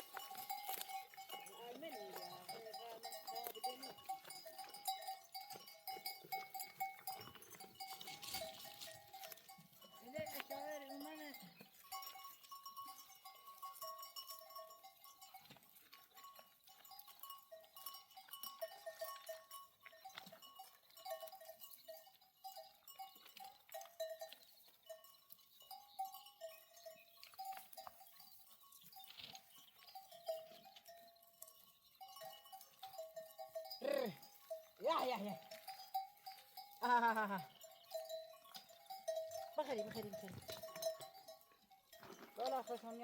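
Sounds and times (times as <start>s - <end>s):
animal bells clinking: 0.0s - 43.0s.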